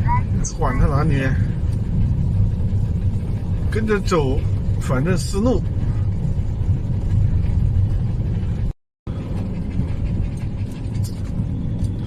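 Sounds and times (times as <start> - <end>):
road and engine rumble in cab: 0.0 - 12.0.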